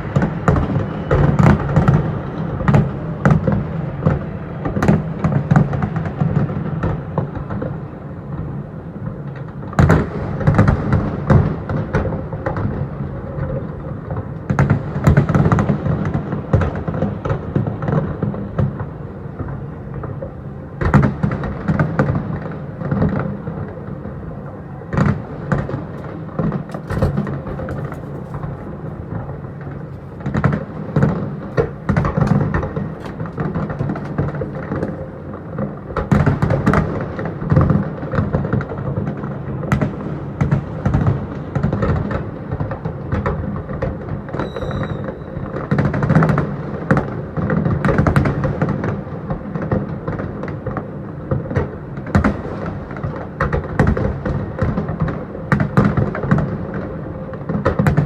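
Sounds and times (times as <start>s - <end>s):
fireworks booms and crackling: 0.0s - 58.0s.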